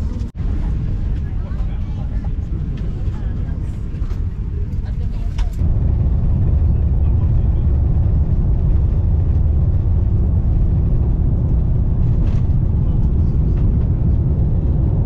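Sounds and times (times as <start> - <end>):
jet airliner cabin rumble: 0.0 - 15.0.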